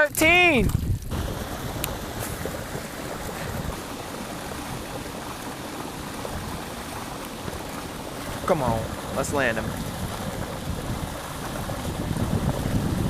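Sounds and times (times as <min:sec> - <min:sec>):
steady rushing noise: 0:00.4 - 0:13.0.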